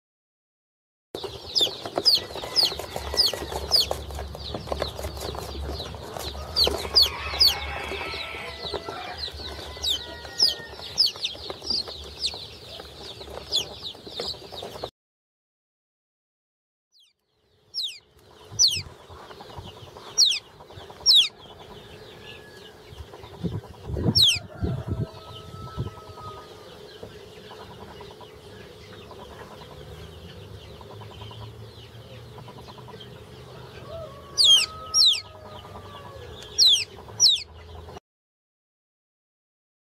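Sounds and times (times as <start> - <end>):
chick peeping: 1.2 - 14.9, 17.0 - 38.0.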